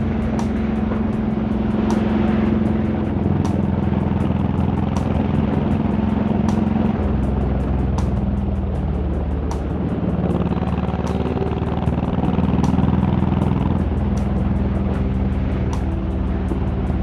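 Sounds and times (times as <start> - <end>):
motorcycle engine running: 0.0 - 17.0
music with regular beat: 0.0 - 17.0
wind rush: 0.0 - 17.0.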